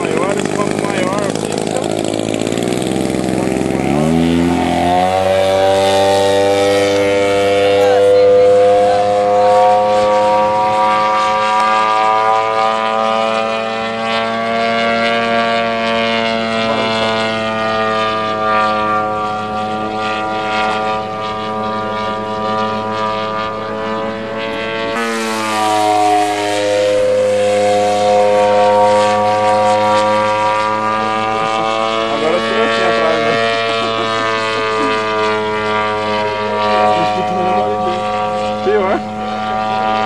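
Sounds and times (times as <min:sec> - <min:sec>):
model airplane engine droning: 0:00.0 - 0:40.0.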